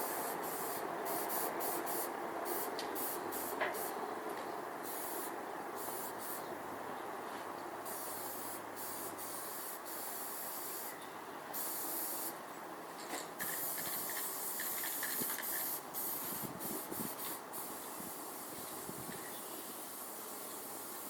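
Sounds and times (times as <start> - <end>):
sharp high hiss bursts: 0.0 - 4.0, 4.8 - 6.5, 7.8 - 12.4, 13.4 - 21.0
steady spraying hiss: 0.0 - 4.0, 4.8 - 6.5, 7.8 - 12.4, 13.4 - 21.0.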